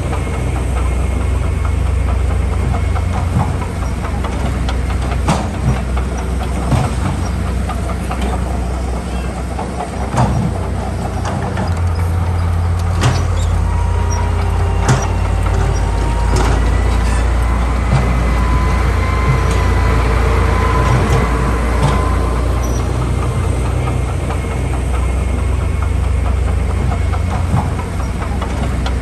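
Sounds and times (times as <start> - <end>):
diesel machinery engine drone: 0.0 - 29.0
metallic clanks and knocks: 0.0 - 29.0.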